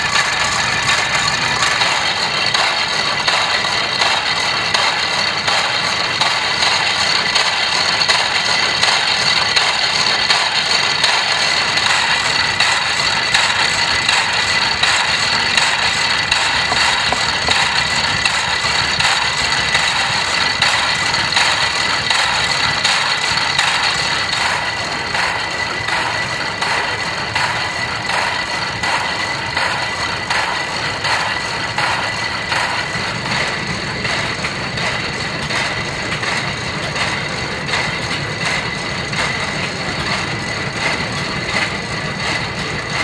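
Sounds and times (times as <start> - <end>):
generator mechanical running noise: 0.0 - 43.0.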